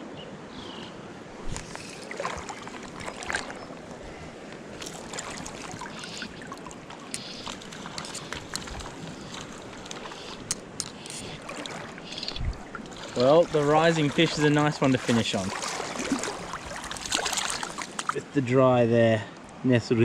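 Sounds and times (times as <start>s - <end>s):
creek water running: 1.2s - 19.4s
water splashing: 1.4s - 18.3s.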